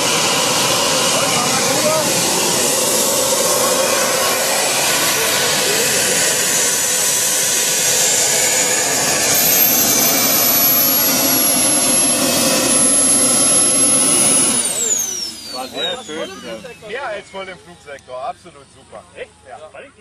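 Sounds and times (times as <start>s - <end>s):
model jet turbines whining: 0.0s - 20.0s.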